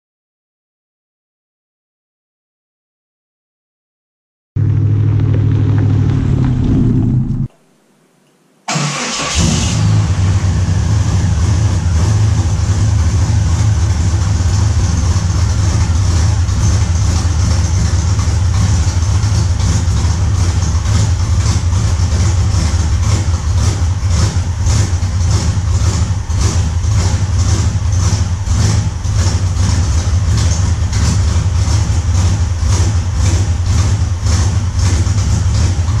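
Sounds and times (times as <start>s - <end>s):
engine idling: 4.6s - 7.5s, 8.7s - 36.0s.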